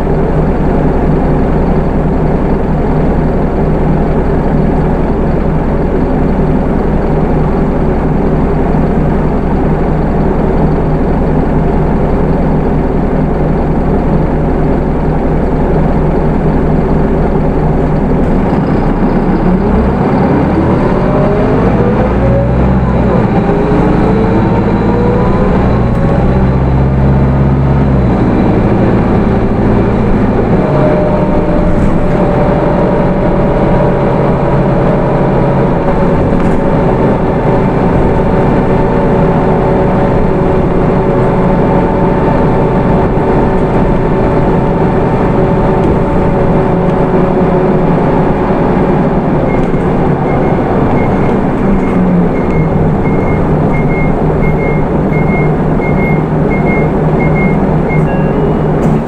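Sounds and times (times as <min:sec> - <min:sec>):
bus diesel engine revving: 0:00.0 - 0:59.0.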